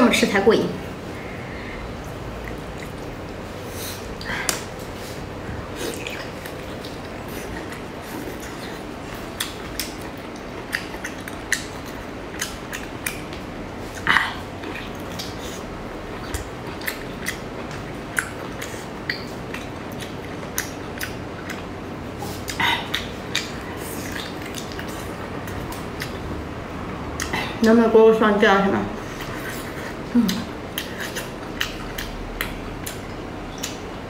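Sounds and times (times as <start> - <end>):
chewing and lip-smacking: 2.0 - 26.4, 29.0 - 34.0.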